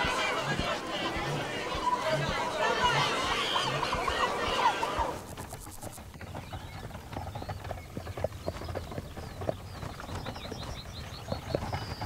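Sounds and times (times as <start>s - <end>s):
cart wheels rumbling: 0.0s - 12.0s
hooves clip-clopping on dirt: 0.0s - 12.0s.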